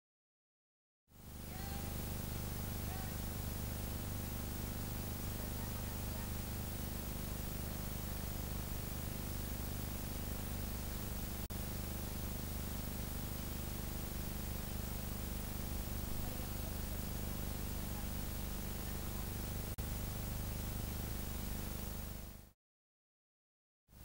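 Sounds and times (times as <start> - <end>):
steady hiss with low hum: 1.2 - 22.5.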